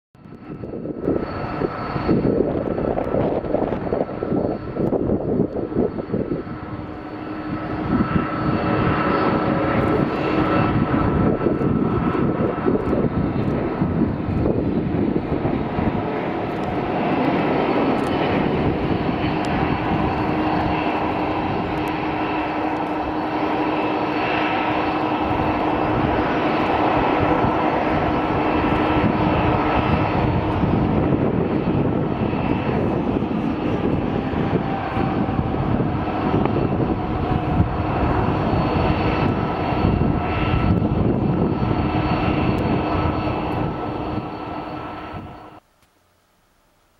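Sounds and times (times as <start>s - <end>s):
jet engines rushing and whining: 0.2s - 45.7s.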